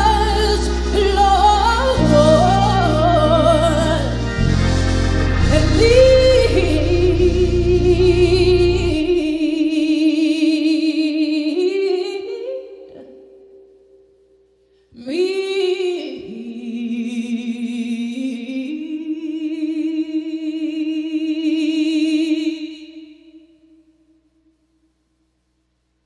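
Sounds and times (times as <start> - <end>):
woman singing a hymn: 0.0 - 4.4, 5.4 - 13.4, 15.0 - 23.8.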